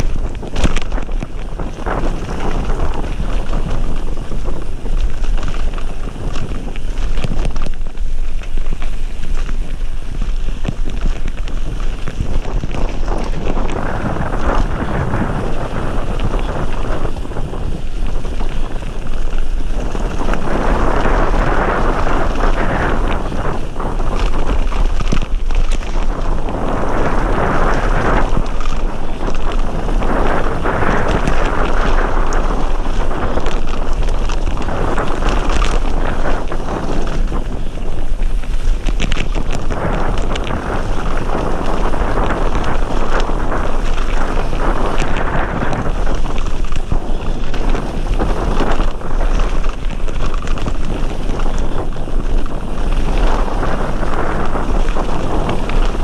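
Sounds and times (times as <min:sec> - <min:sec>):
bike knocks and rattles: 0:00.0 - 0:56.0
tyres rolling on gravel: 0:00.0 - 0:56.0
wind buffeting microphone: 0:00.0 - 0:56.0.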